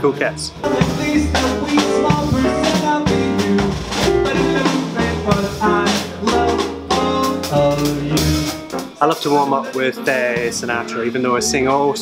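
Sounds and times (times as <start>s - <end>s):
drums: 0.0s - 12.0s
male singer singing swing: 0.0s - 12.0s
piano: 0.0s - 12.0s
upright bass: 0.0s - 12.0s.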